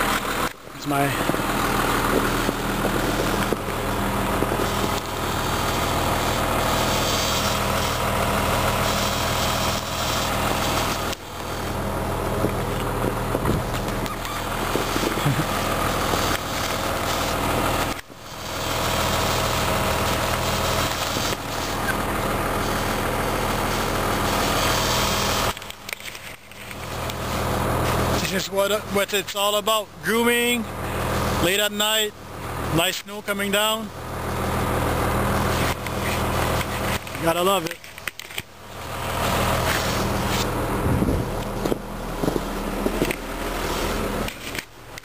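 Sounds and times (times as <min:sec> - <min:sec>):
engine droning under load: 0:00.0 - 0:45.0.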